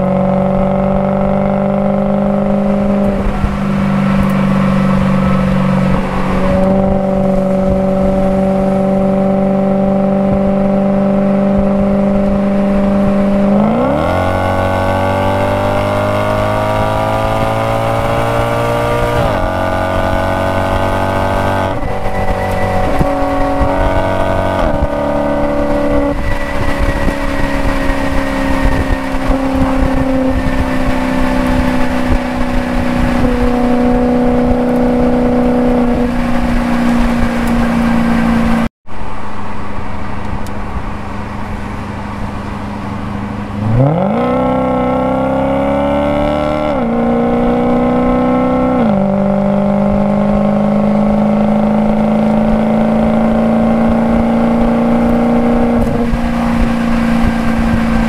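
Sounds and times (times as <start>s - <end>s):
car engine revving at speed: 0.0s - 38.7s, 40.0s - 58.0s.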